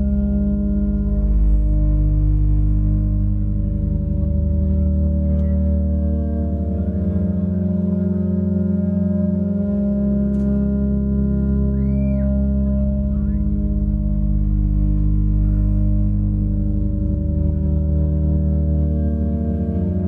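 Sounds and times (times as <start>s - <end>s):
ambient drone music: 0.0s - 20.0s.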